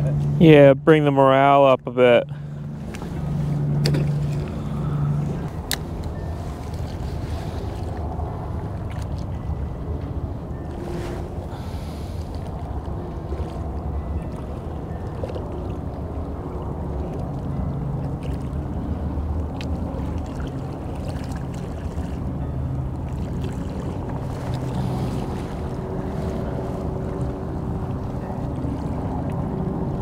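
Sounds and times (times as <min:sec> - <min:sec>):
boat engine rumbling: 0:00.0 - 0:30.0.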